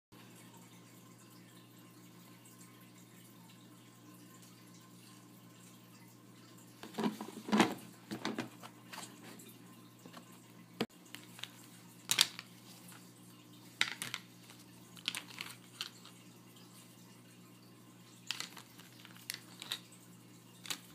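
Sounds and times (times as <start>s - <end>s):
low steady hum: 0.2s - 20.9s.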